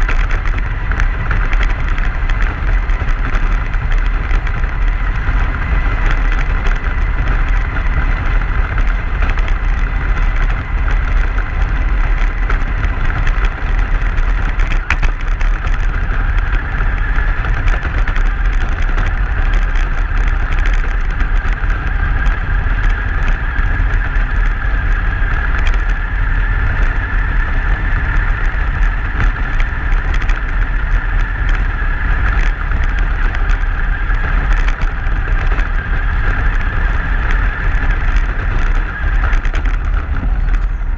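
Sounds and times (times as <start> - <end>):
constant high hum: 0.0 - 40.9
truck tyres rumbling on snow: 0.0 - 40.9.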